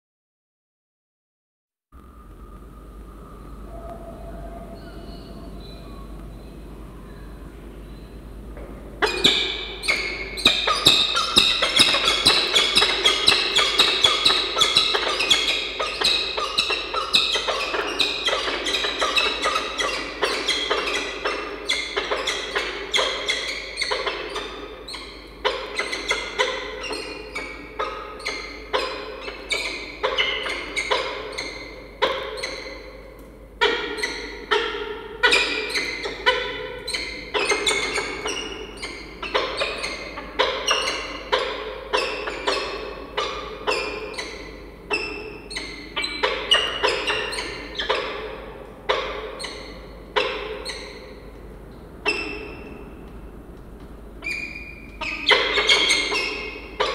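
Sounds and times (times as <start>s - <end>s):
falcons chupping calls: 2.2s - 53.2s, 53.9s - 56.9s.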